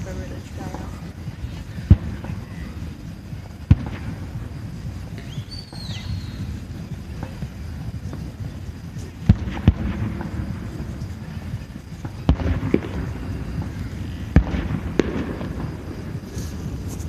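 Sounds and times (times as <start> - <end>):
fireworks bangs: 0.0 - 17.0
low background rumble: 0.0 - 17.0.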